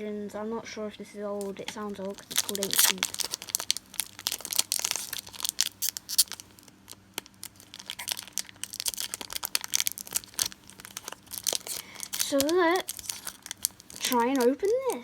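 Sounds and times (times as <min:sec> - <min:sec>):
foil wrapper crinkling: 0:01.3 - 0:15.0.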